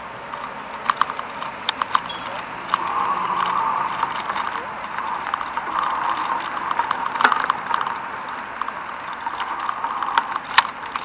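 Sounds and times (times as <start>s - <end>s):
bicycle clicks and rattles: 0.0s - 11.0s
bicycle tyre and wind noise: 0.0s - 11.0s.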